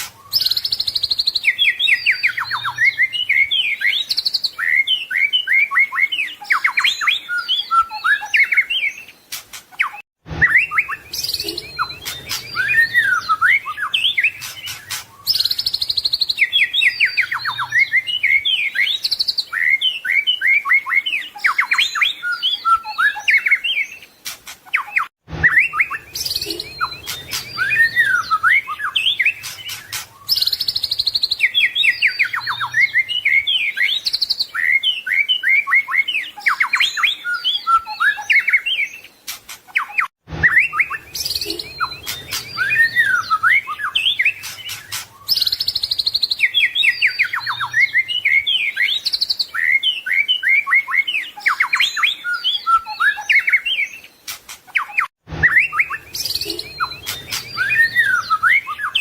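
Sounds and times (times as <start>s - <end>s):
songbird singing varied song: 0.0s - 59.0s.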